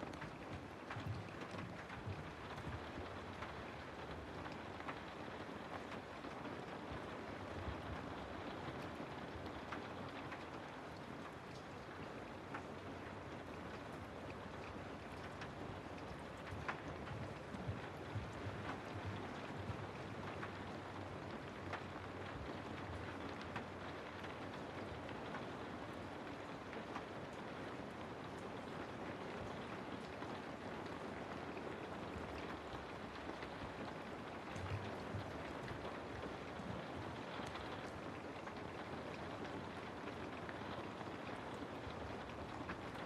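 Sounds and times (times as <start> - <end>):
rain falling through trees: 0.0 - 43.0
raindrops ticking: 0.0 - 43.0.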